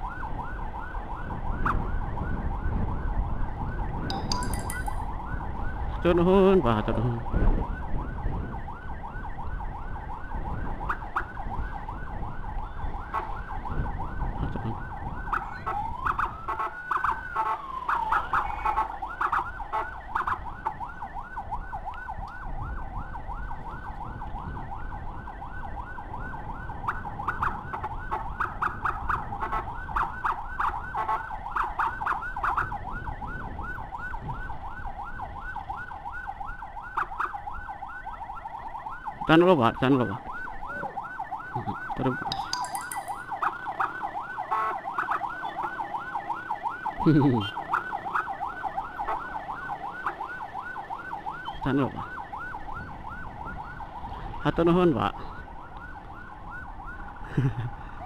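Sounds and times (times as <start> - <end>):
electronic emergency siren: 0.0 - 57.2.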